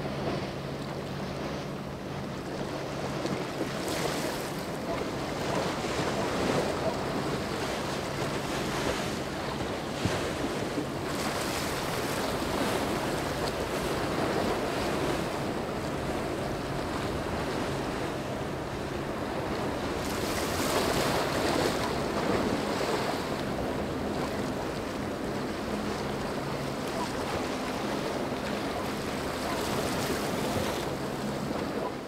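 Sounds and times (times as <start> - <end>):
water rushing from boat wake: 0.0 - 32.0.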